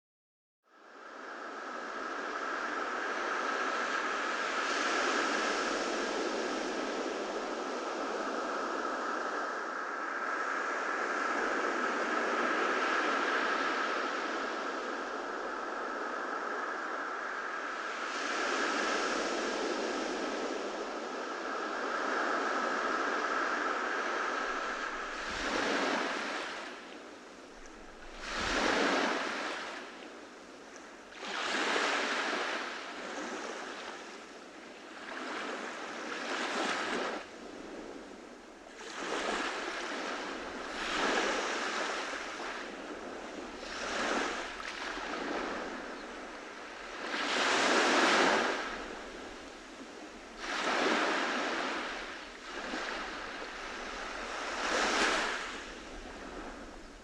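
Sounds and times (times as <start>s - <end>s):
waves breaking on a beach: 0.7s - 57.0s.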